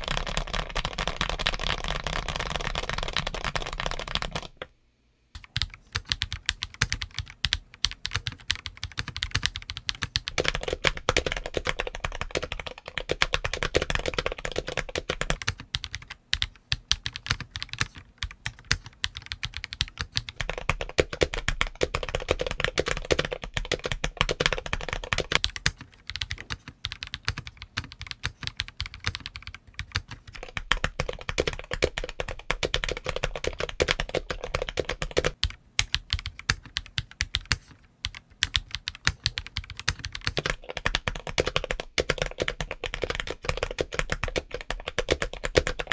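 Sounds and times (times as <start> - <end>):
fast typing on mechanical keyboard: 0.0 - 4.6, 5.4 - 45.9.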